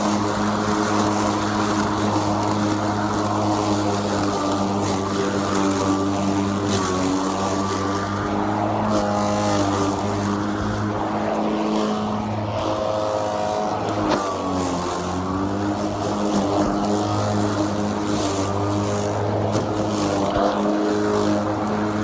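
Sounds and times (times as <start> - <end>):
lawn mower cutting grass: 0.0 - 22.0.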